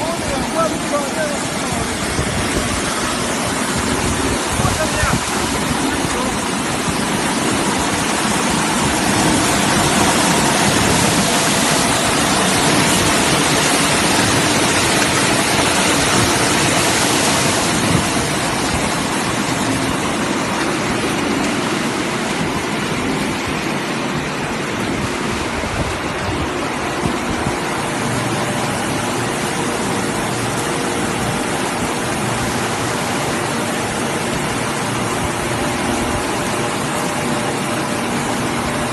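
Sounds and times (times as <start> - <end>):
machinery hum: 0.0 - 38.9
splashing water: 0.0 - 38.9.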